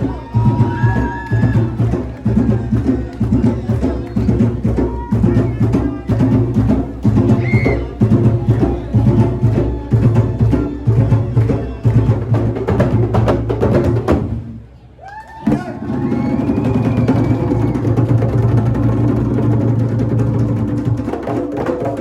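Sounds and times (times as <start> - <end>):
wood-block-like percussion: 0.0 - 14.3, 15.4 - 22.0.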